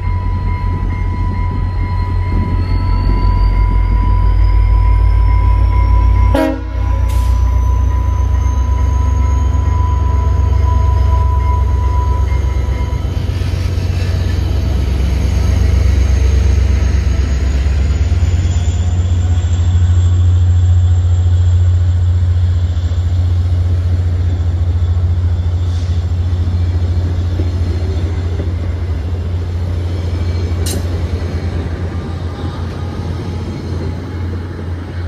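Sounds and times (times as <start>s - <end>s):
diesel locomotive engine rumble: 0.0s - 35.0s
train coaches rolling on rails: 0.0s - 35.0s.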